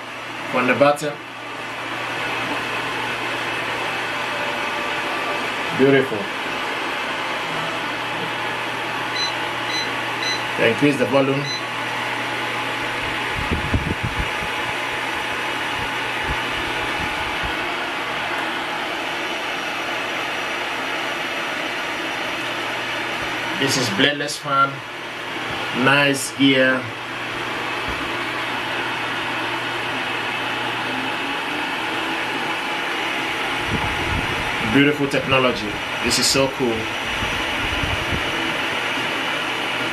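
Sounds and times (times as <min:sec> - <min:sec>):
fan air rushing with hum: 0:00.0 - 0:39.9.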